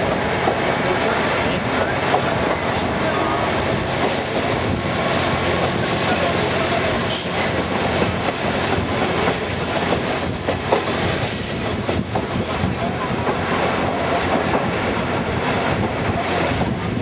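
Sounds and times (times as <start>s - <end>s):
railcar wheels and engine rumble: 0.0s - 17.0s.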